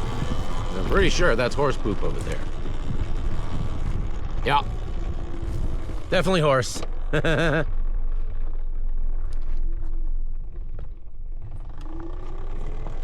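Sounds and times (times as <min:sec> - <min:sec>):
wind buffeting: 0:00.0 - 0:12.5
electric motor whine: 0:00.0 - 0:13.0.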